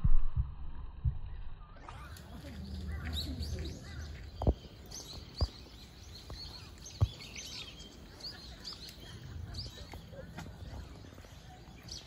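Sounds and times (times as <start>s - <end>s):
soft outdoor background noise: 0.1s - 12.0s
birds chirping: 1.2s - 12.0s.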